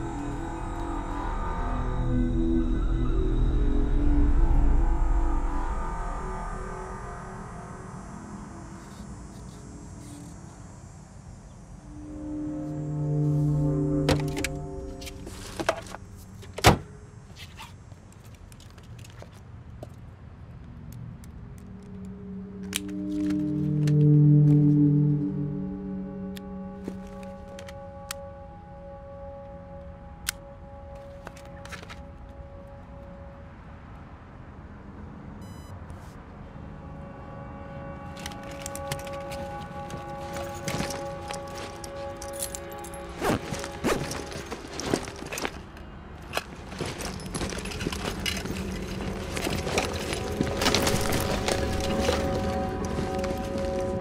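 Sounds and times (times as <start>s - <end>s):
low held musical tone: 0.0s - 17.2s, 21.8s - 46.2s, 46.8s - 54.0s.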